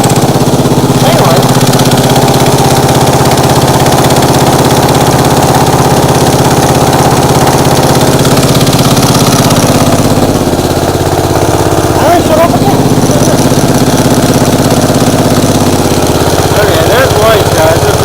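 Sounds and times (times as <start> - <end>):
small tractor engine running: 0.0 - 18.0.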